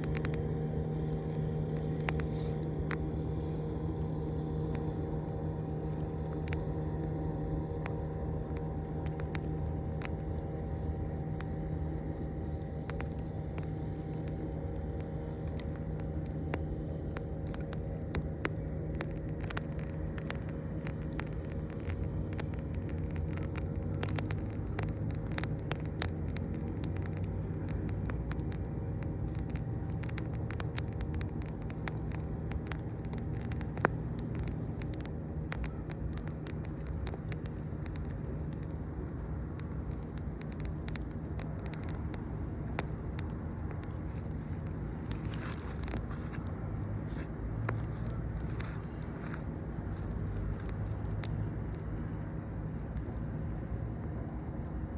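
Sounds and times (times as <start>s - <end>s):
campfire crackling: 0.0s - 54.9s
low rumble: 0.0s - 54.9s.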